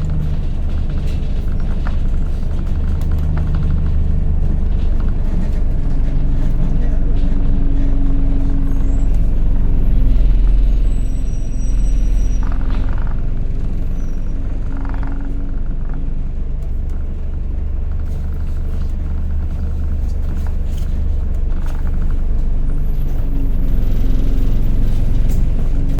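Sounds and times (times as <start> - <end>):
bus engine whining: 0.0 - 25.9.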